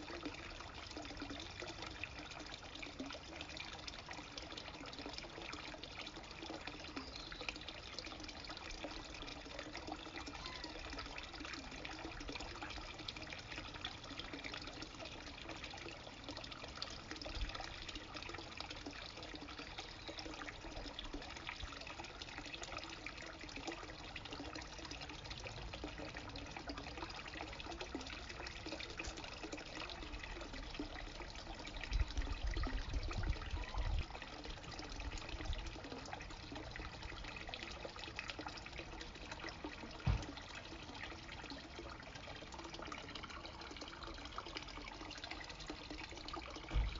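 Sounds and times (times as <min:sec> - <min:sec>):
water trickling into a pond: 0:00.0 - 0:46.9.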